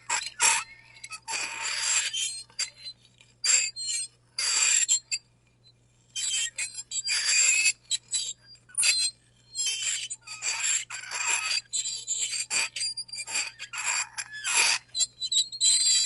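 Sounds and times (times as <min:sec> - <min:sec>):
fork scraping a ceramic plate: 0:00.1 - 0:05.1, 0:06.2 - 0:16.0.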